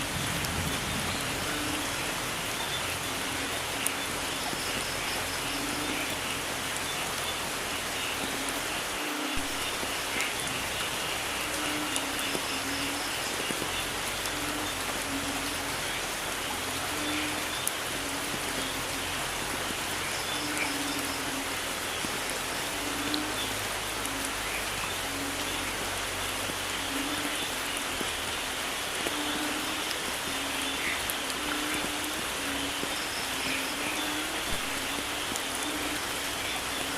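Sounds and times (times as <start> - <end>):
rain pattering: 0.0 - 36.9.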